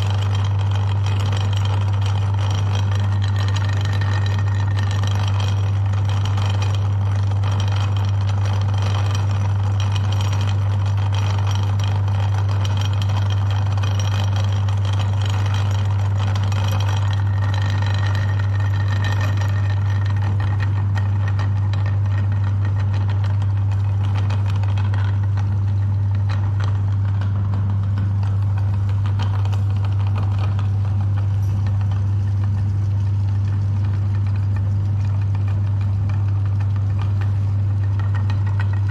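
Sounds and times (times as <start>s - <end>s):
electric meat grinder running: 0.0s - 38.9s.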